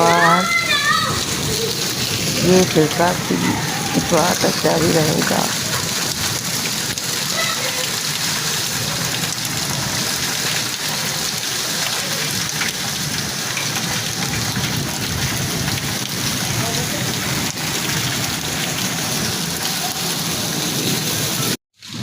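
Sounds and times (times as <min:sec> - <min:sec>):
heavy rain pattering: 0:00.0 - 0:22.0.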